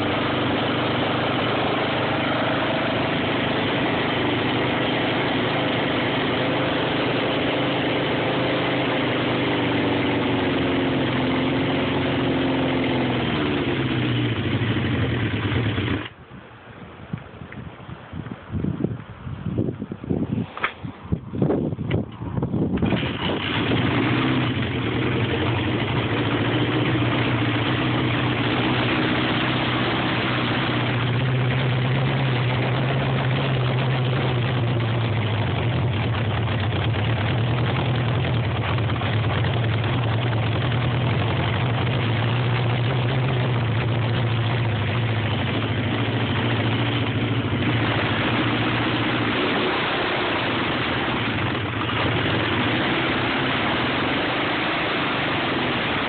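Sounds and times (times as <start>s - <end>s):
vehicle engine idling roughly: 0.0s - 16.1s, 22.8s - 56.0s.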